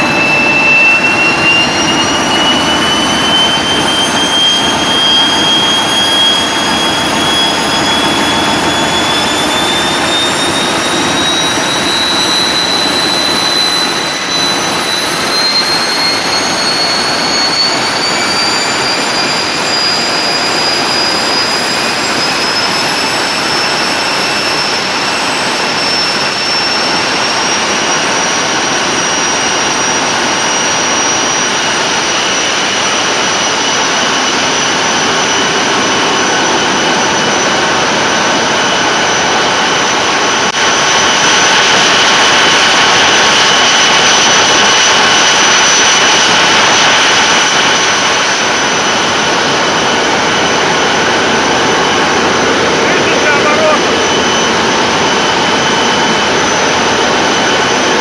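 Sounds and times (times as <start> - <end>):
diesel engine running: 0.0 - 58.0
turbocharger whistling: 0.0 - 58.0.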